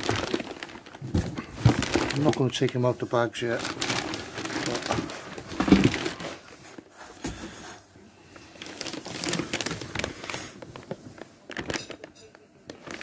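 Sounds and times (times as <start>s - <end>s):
plastic bags crinkling: 0.0s - 6.9s, 8.3s - 13.0s.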